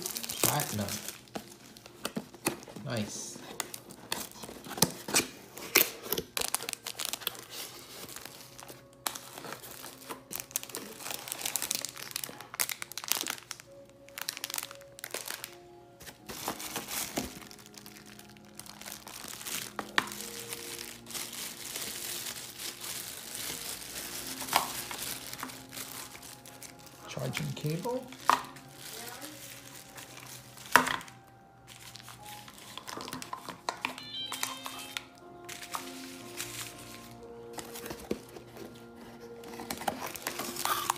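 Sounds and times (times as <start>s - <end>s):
plastic and cardboard crinkling: 0.0s - 40.9s
quiet music: 0.0s - 40.9s.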